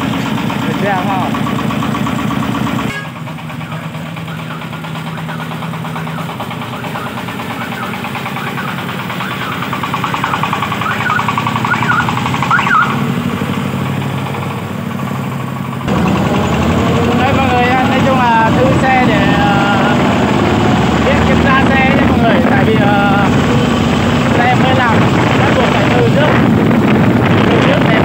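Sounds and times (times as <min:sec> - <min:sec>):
farm vehicle engine knocking: 0:00.0 - 0:28.0.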